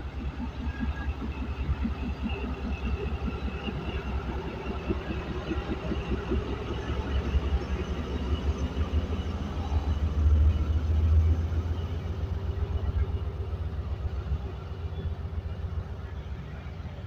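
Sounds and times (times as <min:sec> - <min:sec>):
train coaches rolling past: 0:00.0 - 0:17.0.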